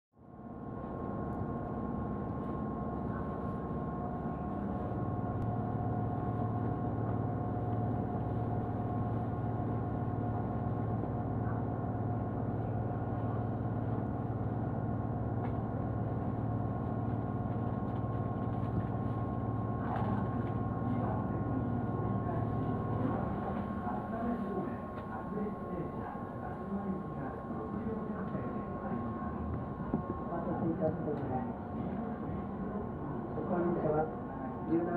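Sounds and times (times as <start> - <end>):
low hum: 0.2 - 34.9
train equipment hum and whine: 0.2 - 34.9.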